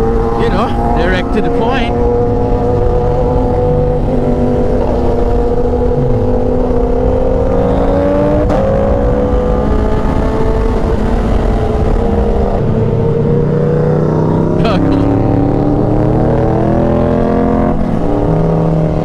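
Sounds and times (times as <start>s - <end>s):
motorcycle engine revving: 0.0s - 19.0s
wind rumble on microphone: 0.0s - 19.0s.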